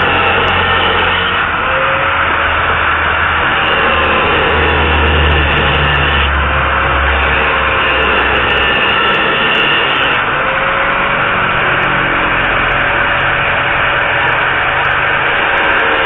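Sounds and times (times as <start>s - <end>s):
angle grinder cutting metal: 0.0s - 16.0s.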